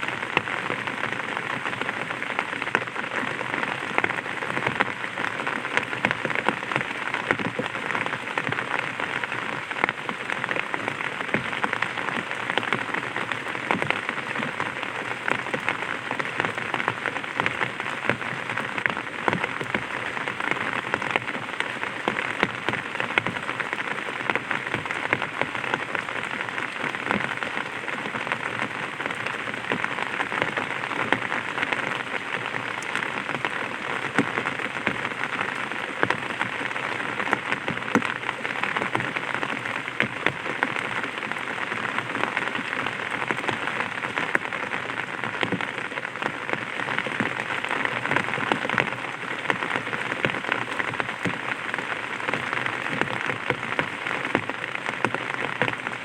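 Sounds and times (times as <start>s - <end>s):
rain on an umbrella: 0.0s - 56.0s.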